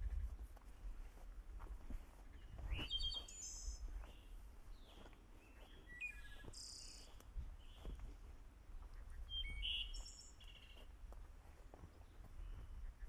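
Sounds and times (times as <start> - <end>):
faint footsteps on trail: 0.0 - 13.0
songbird chirping: 0.0 - 13.0.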